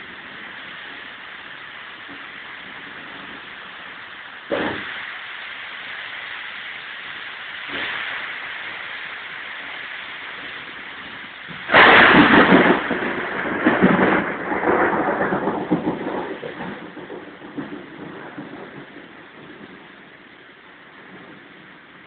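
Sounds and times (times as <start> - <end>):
thunder crash and rumble: 0.0 - 5.1, 7.1 - 20.3, 20.9 - 22.0
steady rain: 0.0 - 22.0.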